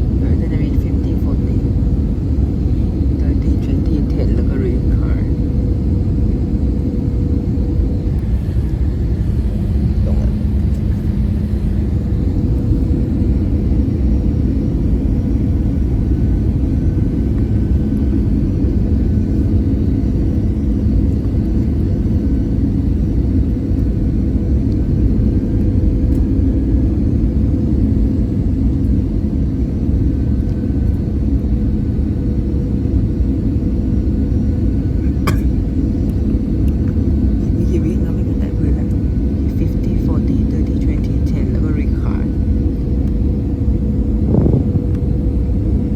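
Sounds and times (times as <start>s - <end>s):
aircraft cabin engine rumble: 0.0s - 45.9s
steady hum: 0.0s - 45.9s.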